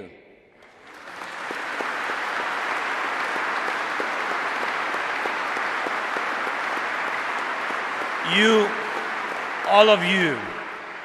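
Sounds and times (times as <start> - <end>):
large audience applauding: 0.6 - 11.0.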